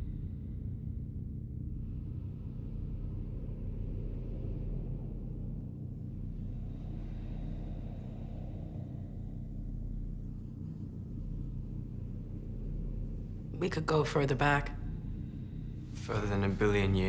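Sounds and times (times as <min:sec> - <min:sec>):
deep rumbling drone: 0:00.0 - 0:17.0.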